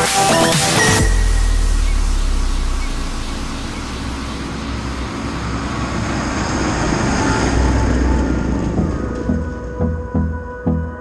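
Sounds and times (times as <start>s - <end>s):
tractor engine and tyres: 0.6s - 11.0s.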